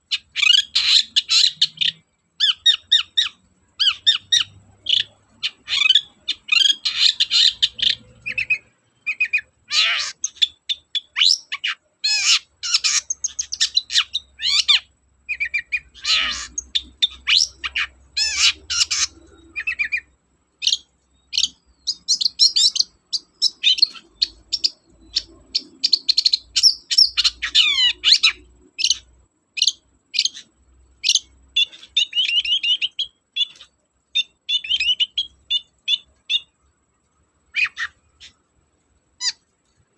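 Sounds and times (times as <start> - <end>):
bird singing chirps and trills: 0.0 - 39.8.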